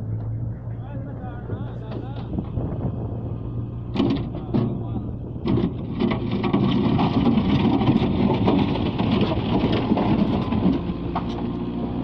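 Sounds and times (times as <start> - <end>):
skid steer engine running: 0.0 - 12.0.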